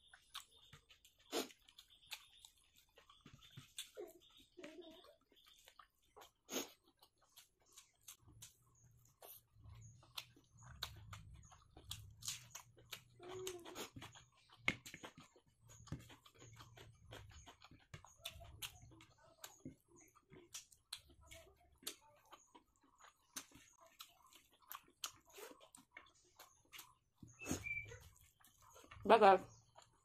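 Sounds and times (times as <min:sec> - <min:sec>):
chewing with wet mouth clicks: 0:00.0 - 0:30.0.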